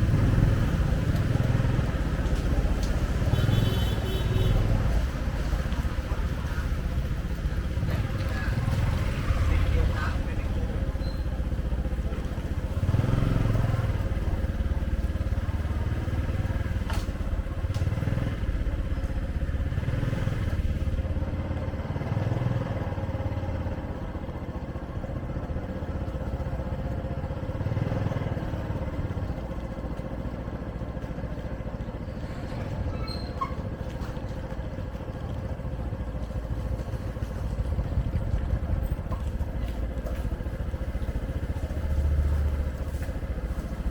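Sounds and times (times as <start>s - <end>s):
motorcycle engines passing: 0.0s - 43.9s.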